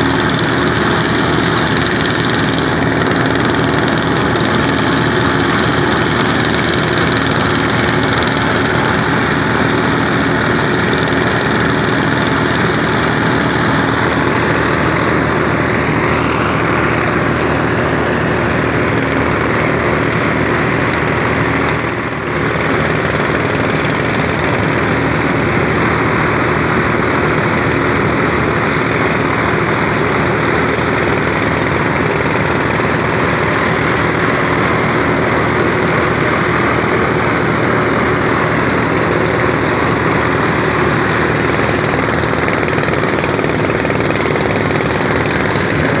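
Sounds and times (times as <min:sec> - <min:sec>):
machine engine running: 0:00.0 - 0:46.0.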